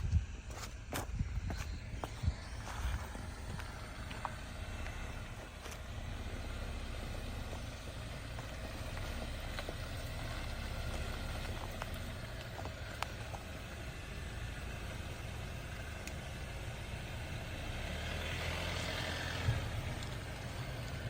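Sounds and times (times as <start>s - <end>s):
engine running at low speed: 0.0s - 21.0s
gravelly hiss: 0.0s - 21.0s.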